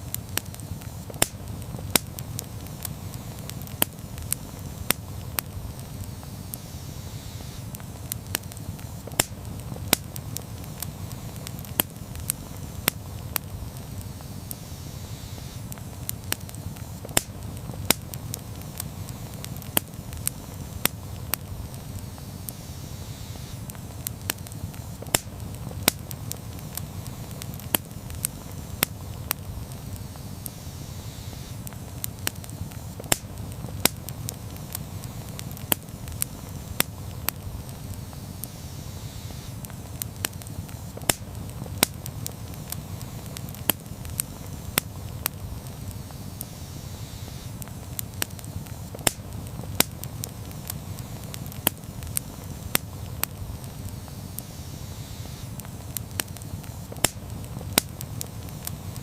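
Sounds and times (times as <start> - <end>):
campfire crackling: 0.0 - 59.0
fire pops and snaps: 0.0 - 59.0
low rumble of burning wood: 0.0 - 59.0.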